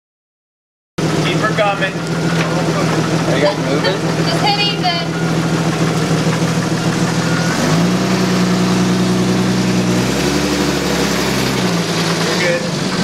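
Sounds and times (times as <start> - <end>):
car engine idling: 1.0 - 13.0
deeper hum: 1.0 - 13.0.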